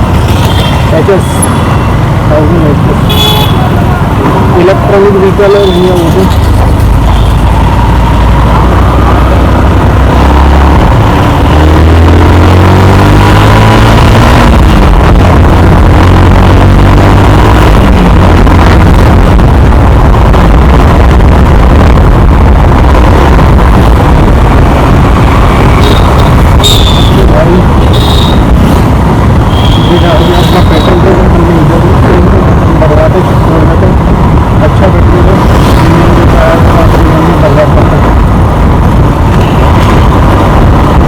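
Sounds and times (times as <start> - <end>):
wind rumble on microphone: 6.0 - 29.9, 30.8 - 41.0
motorcycle engine accelerating: 6.1 - 41.0.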